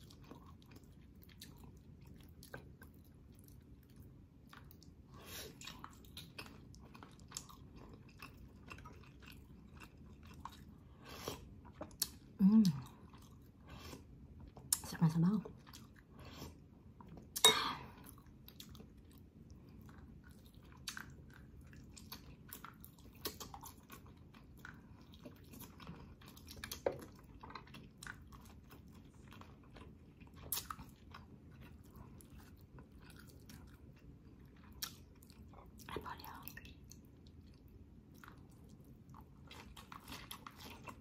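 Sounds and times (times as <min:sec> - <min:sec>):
person chewing food: 0:00.0 - 0:41.0.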